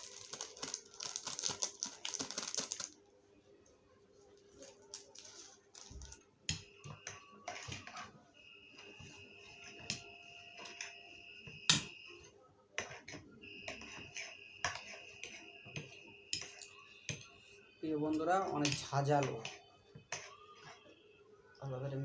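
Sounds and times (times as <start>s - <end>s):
faint high-pitched tone: 0.0s - 22.0s.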